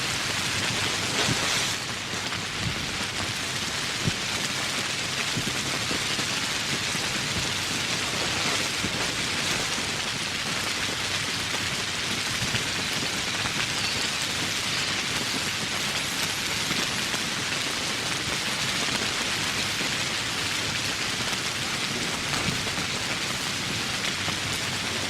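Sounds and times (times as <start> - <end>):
steady rain hiss: 0.0 - 25.0
raindrops ticking: 0.1 - 25.0.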